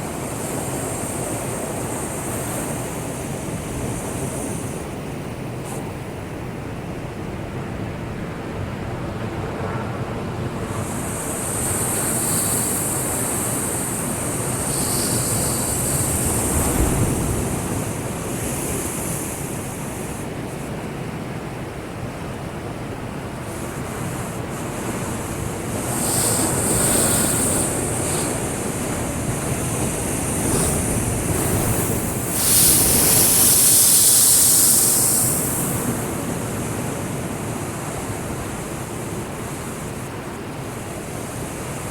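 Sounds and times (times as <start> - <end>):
waves surging and breaking: 8.1 - 41.9.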